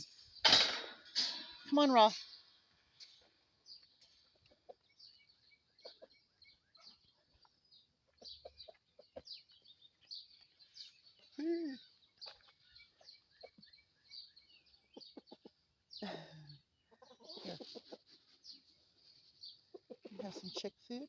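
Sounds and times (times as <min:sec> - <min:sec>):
chickens clucking: 0:00.0 - 0:16.0, 0:16.6 - 0:21.0.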